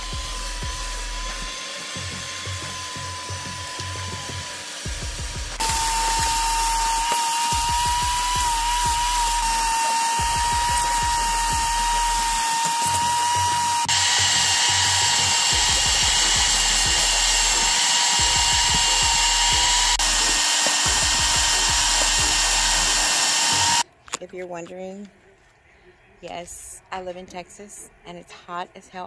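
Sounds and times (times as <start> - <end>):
vacuum cleaner whine: 0.0 - 23.8.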